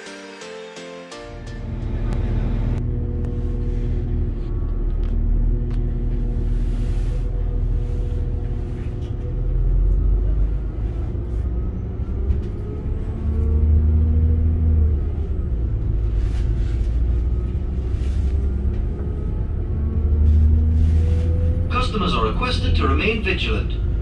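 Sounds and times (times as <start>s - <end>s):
train diesel engine rumbling: 1.3s - 24.0s.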